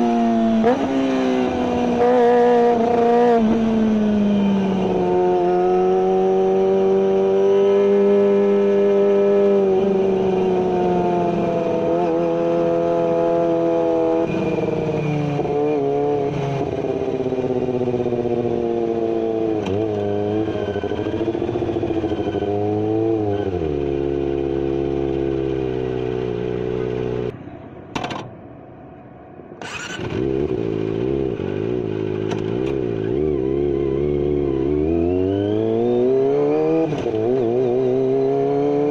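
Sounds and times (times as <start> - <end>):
motorcycle engine revving: 0.0 - 27.3, 29.6 - 38.9.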